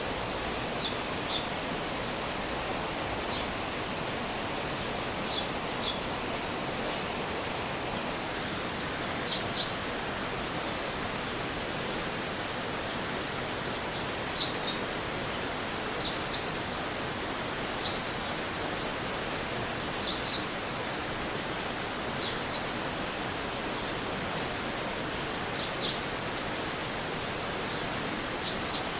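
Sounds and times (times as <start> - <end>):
stream water flowing: 0.0 - 28.9.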